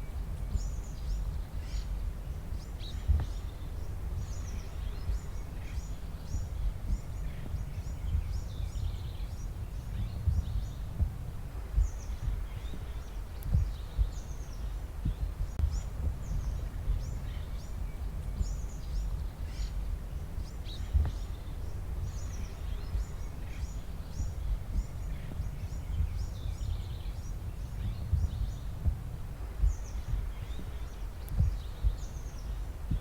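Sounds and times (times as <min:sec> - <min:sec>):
low steady rumble: 0:00.0 - 0:33.0
small birds chirping: 0:00.0 - 0:33.0.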